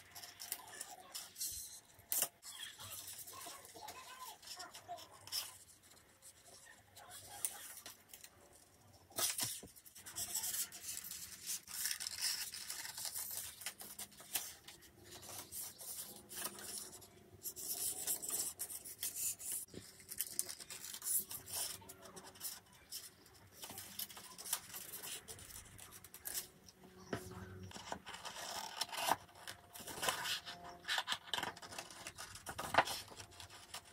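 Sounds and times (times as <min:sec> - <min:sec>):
scissors cutting paper: 0:00.0 - 0:08.3, 0:09.2 - 0:26.5, 0:27.6 - 0:33.9
paper rustling: 0:00.1 - 0:26.5, 0:27.7 - 0:33.9.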